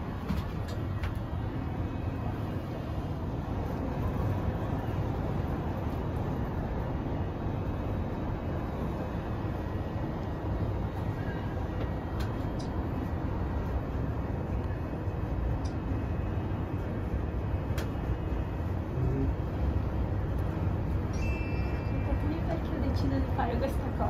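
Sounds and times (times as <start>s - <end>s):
cable car rumbling: 0.0s - 24.0s.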